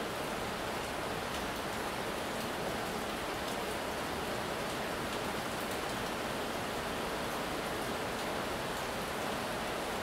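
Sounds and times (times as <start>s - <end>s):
heavy rain splashing on tiles: 0.0s - 10.0s.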